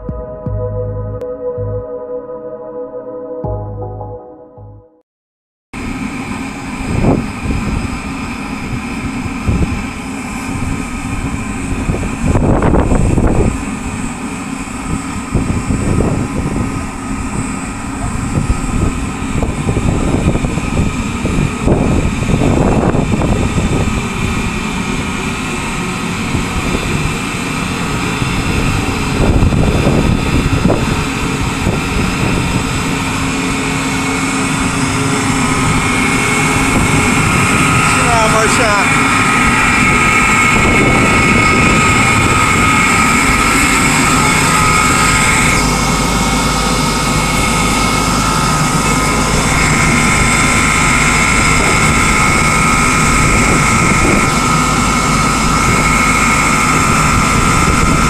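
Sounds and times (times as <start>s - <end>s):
mechanical drone of plant machinery: 5.8s - 58.0s.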